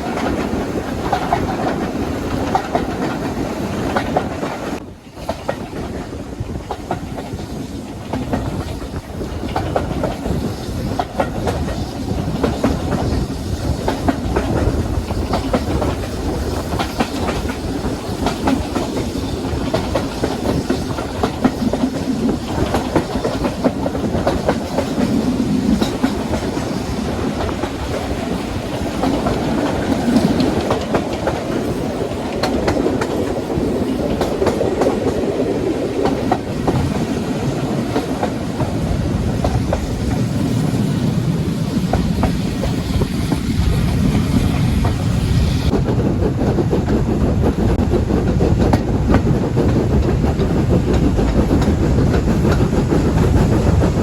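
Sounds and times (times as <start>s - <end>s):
train rumble: 0.0s - 54.0s
train wheels clicking on rail joints: 0.0s - 54.0s.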